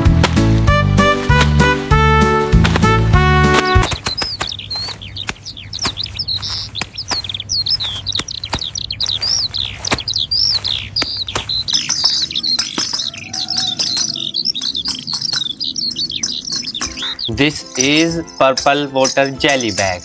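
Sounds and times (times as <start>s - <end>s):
small birds chirping: 3.8s - 20.0s.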